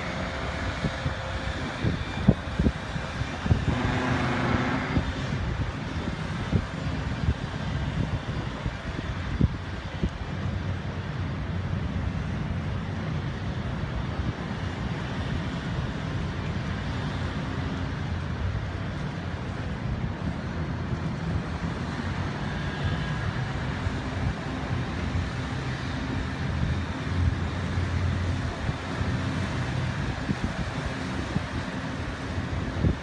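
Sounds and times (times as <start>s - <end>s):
boat engines rumbling: 0.0s - 33.0s.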